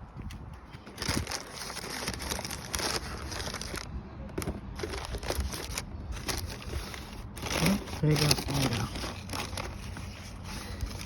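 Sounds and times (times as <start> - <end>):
rustling and crinkling handling noise: 0.1 - 11.0.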